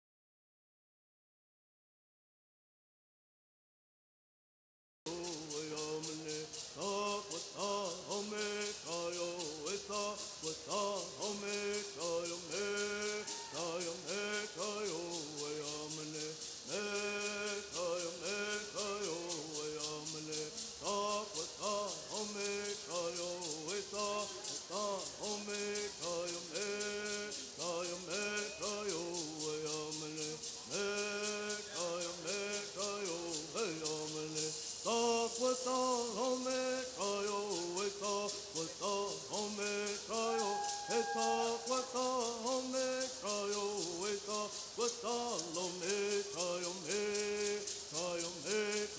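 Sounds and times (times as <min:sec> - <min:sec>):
gourd rattles shaking: 0:05.1 - 0:48.9
men singing in unison: 0:05.1 - 0:48.9.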